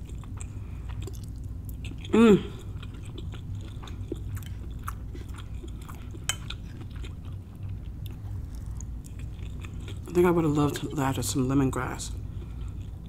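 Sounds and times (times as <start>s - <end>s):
person chewing food: 0.0s - 11.0s, 12.1s - 13.0s
low steady hum: 0.0s - 13.0s.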